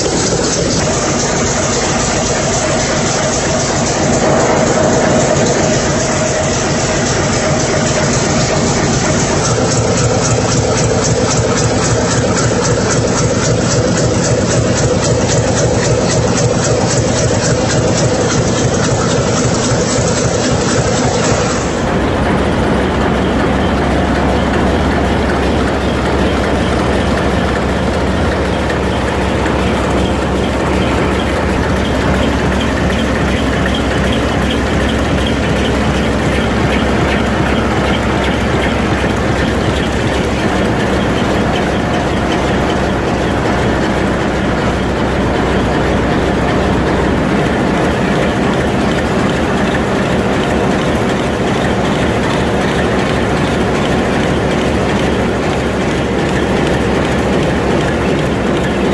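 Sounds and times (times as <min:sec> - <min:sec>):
low hum: 0:00.0 - 0:11.1, 0:21.2 - 0:58.9
old engine clattering: 0:00.0 - 0:58.9.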